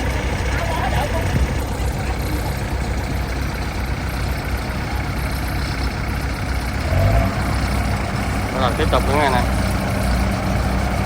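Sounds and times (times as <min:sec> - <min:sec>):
heavy farm machinery engine: 0:00.0 - 0:11.0.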